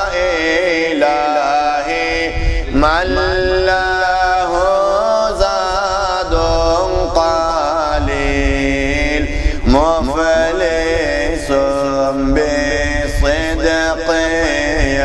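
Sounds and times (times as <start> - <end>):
man chanting solo: 0.0 - 15.0.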